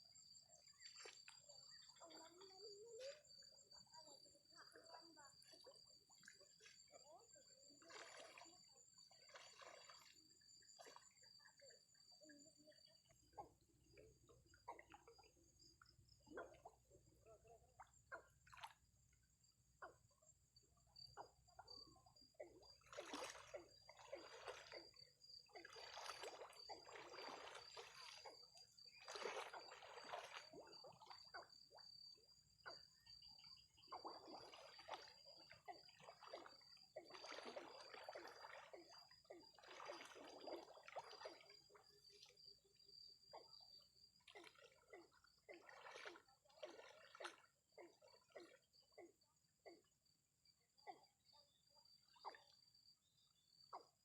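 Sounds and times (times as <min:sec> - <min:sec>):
water sloshing and splashing: 0:00.0 - 0:54.0.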